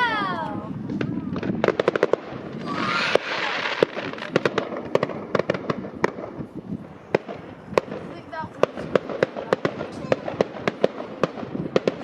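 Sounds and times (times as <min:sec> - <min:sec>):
fireworks bangs and pops: 0:00.0 - 0:12.0
crackling hiss: 0:00.8 - 0:12.0.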